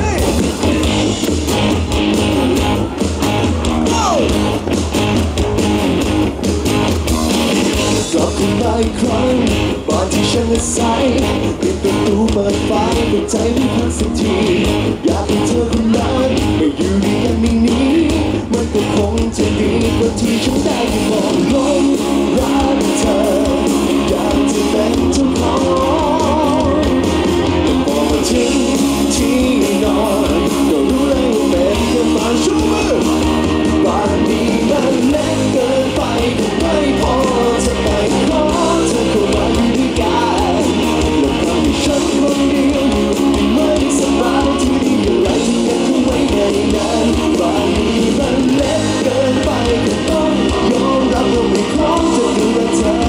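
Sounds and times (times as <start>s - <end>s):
drums: 0.0s - 53.0s
man singing: 3.8s - 4.4s, 7.8s - 53.0s.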